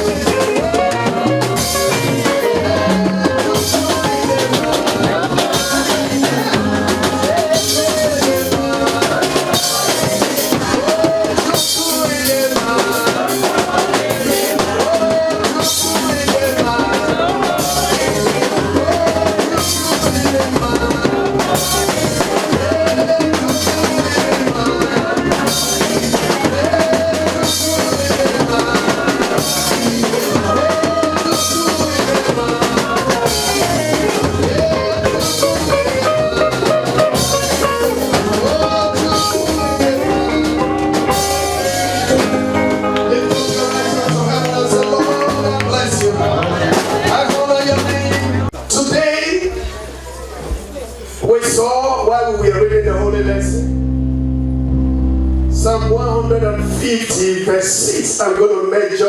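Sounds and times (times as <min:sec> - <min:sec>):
drum kit beat: 0:00.0 - 0:58.2
bass: 0:00.0 - 0:59.0
keyboard: 0:00.0 - 0:59.0.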